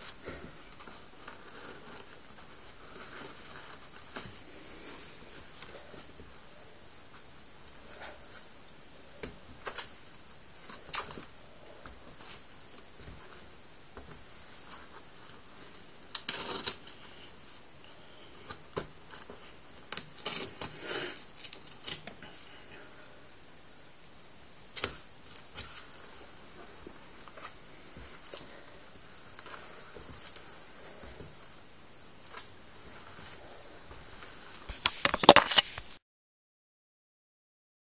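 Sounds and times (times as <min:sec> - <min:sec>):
rustling: 0:00.0 - 0:23.4, 0:24.4 - 0:36.0.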